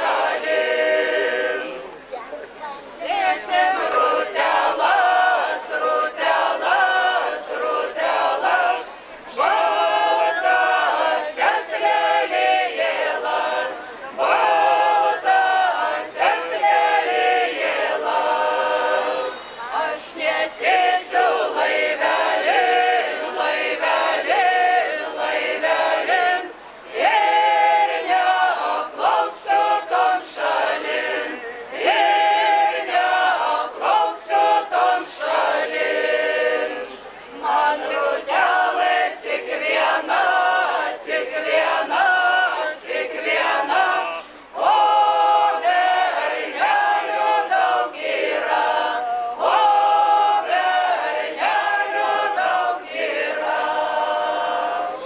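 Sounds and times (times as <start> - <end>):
choir singing a cappella: 0.0 - 2.1, 3.0 - 55.0.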